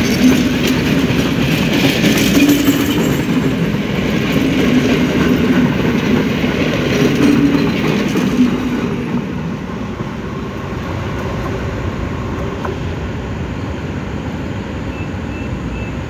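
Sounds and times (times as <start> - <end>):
train carriages rumbling past: 0.0 - 16.0.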